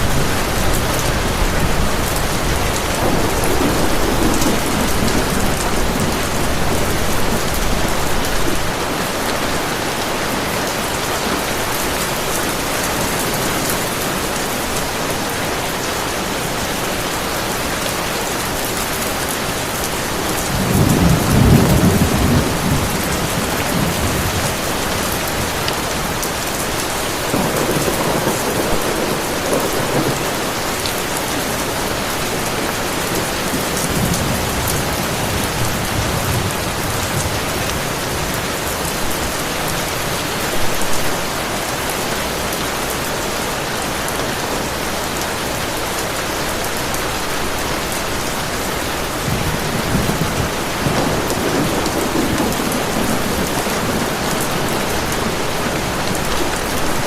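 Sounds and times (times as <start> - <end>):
thunder rumbling: 0.0 - 15.5, 18.5 - 39.6, 47.2 - 57.0
heavy rain: 0.0 - 57.0.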